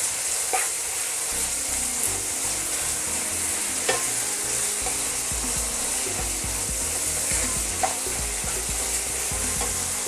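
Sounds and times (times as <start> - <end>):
onions sizzling in hot oil: 0.0 - 10.0
spatula scraping a wok: 0.4 - 1.8, 2.4 - 10.0.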